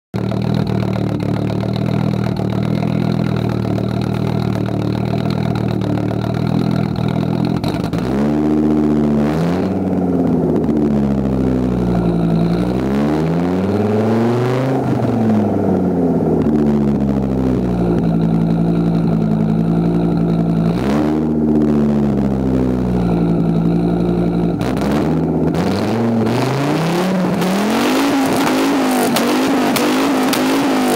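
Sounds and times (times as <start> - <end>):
car engine idling and revving: 0.1 - 30.9
exhaust pops: 0.1 - 30.9.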